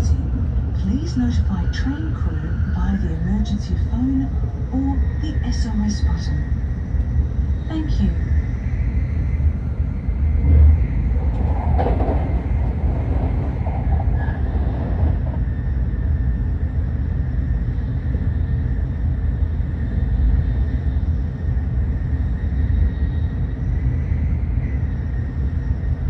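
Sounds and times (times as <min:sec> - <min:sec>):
train interior low rumble: 0:00.0 - 0:26.0.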